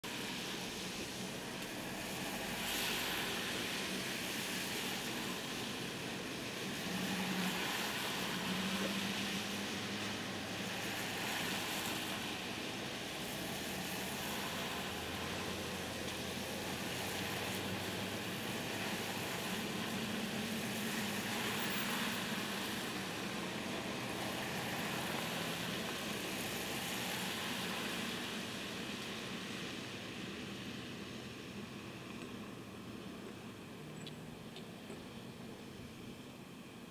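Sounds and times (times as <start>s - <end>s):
tyres hissing on wet road: 0.0s - 36.9s.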